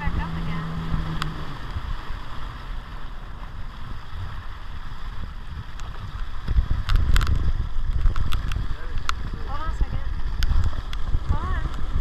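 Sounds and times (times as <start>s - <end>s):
water sloshing against hull: 0.0s - 12.0s
wind buffeting microphone: 0.0s - 12.0s.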